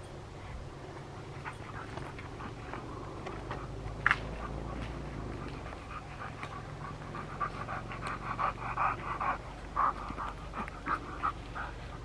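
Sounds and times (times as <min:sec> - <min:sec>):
dog panting: 0:01.1 - 0:12.0.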